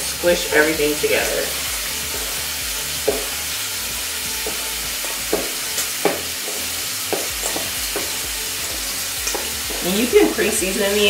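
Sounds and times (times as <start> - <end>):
bacon frying in a pan: 0.0 - 11.0.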